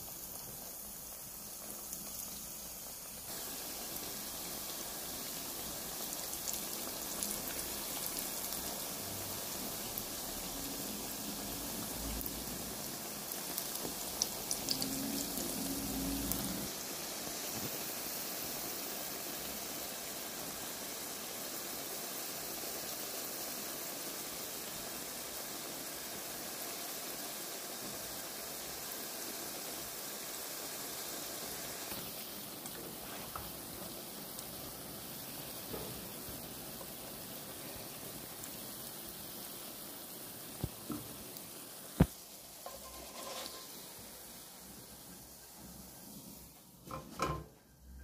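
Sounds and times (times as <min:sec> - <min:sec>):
patties sizzling in hot oil: 0:00.0 - 0:48.0.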